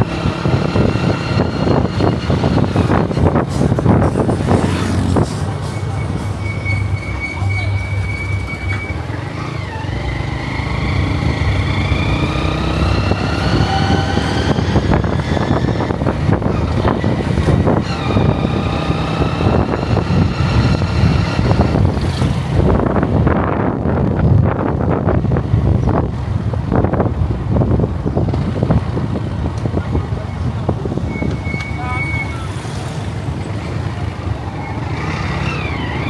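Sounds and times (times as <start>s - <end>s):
motorcycle engine accelerating: 0.0s - 6.6s, 7.2s - 31.5s, 32.1s - 36.0s
wind rumbling on microphone: 0.0s - 36.0s.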